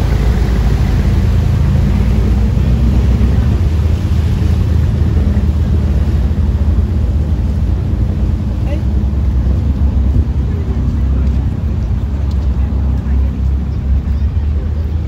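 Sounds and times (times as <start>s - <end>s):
boat engines droning: 0.0s - 15.0s
propeller wash churning: 0.0s - 15.0s.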